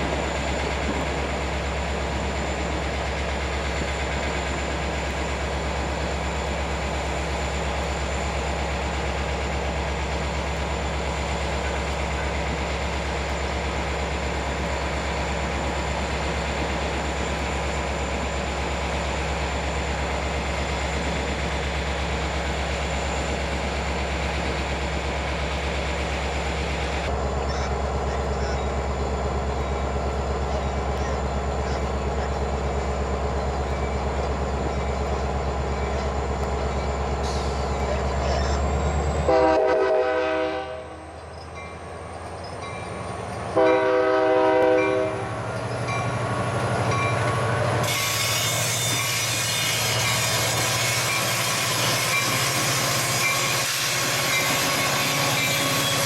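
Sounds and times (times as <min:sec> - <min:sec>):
train engine droning: 0:00.0 - 0:56.0.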